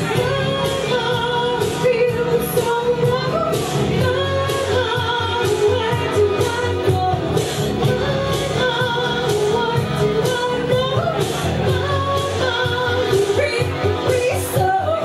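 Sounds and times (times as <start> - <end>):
karaoke backing track with drums: 0.0 - 15.0
woman singing: 0.0 - 15.0.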